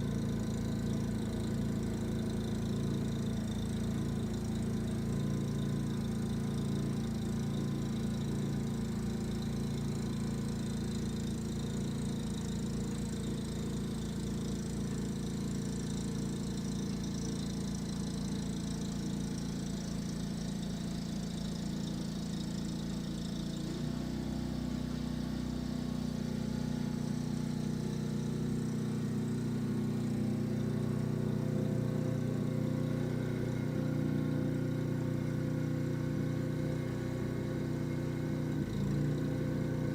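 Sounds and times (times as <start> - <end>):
snow blower engine running: 0.0 - 39.9.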